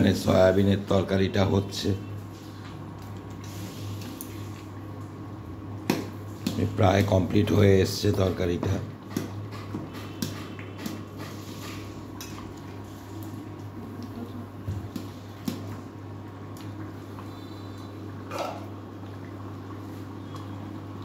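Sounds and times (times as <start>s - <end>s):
curry squelching as it simmers: 0.0s - 21.0s.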